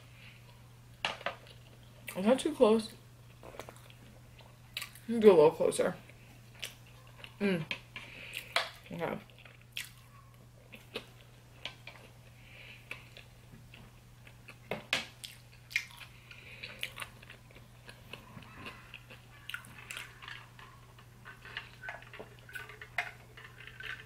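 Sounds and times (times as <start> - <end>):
faint steady hum: 0.0 - 24.0
person chewing: 3.3 - 5.1, 6.5 - 24.0.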